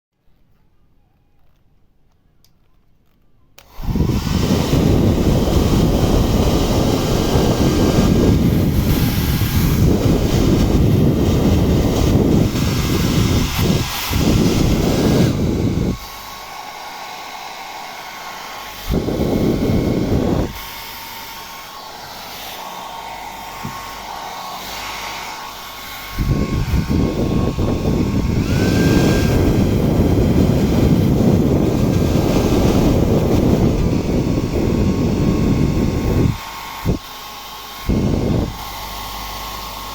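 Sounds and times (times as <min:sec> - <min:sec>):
hair dryer blowing: 0:03.6 - 0:39.9.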